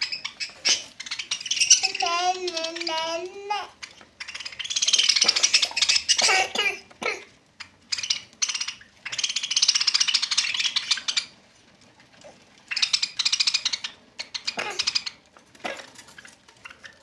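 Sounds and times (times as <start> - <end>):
parrots squawking: 0.0 - 11.4, 12.2 - 17.0.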